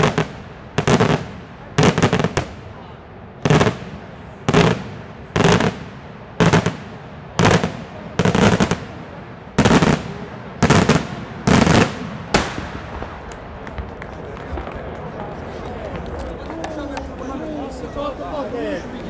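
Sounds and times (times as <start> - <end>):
fireworks bursting with cracks: 0.0 - 16.5.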